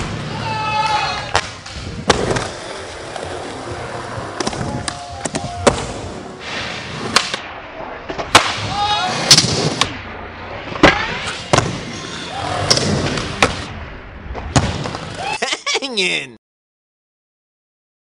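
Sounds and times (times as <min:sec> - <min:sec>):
skateboard wheels rolling on concrete: 0:00.0 - 0:15.4.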